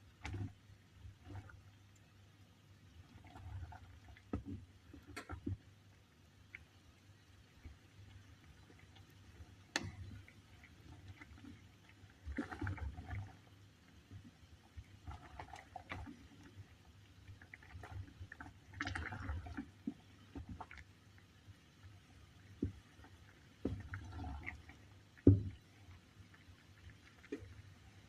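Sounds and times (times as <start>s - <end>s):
water simmering with small pops: 0.0s - 28.0s.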